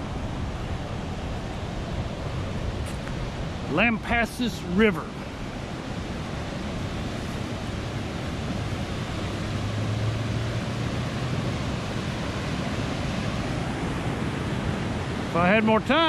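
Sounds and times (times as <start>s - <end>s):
water rushing over weir: 0.0s - 16.0s.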